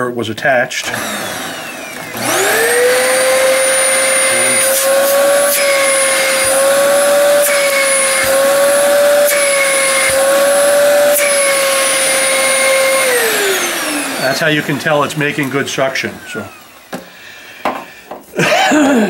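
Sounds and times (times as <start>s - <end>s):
vacuum cleaner motor whine: 0.8s - 17.2s.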